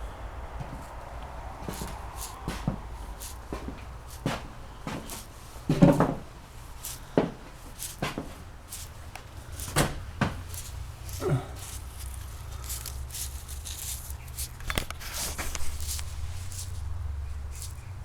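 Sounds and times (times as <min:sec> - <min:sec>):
butterfly clicking: 0:00.7 - 0:18.0
butterfly rasp: 0:00.7 - 0:18.0.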